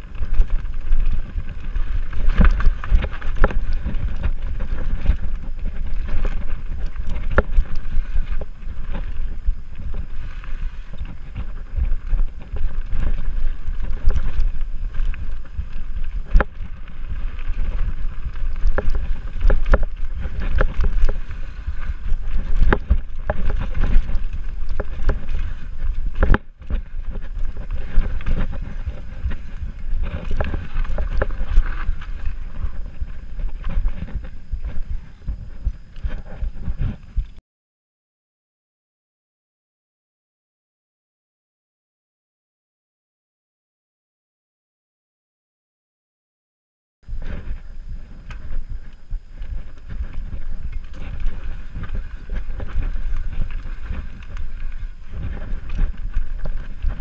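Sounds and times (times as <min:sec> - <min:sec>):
bike rattling and clattering: 0:00.0 - 0:37.4, 0:47.0 - 0:57.0
bike tyres rumbling on dirt: 0:00.0 - 0:37.4, 0:47.0 - 0:57.0
wind buffeting microphone: 0:00.0 - 0:37.4, 0:47.0 - 0:57.0.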